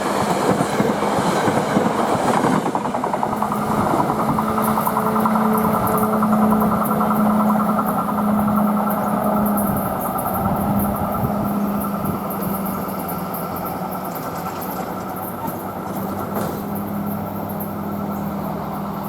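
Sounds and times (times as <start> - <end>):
passenger train rumbling past: 0.0 - 19.0.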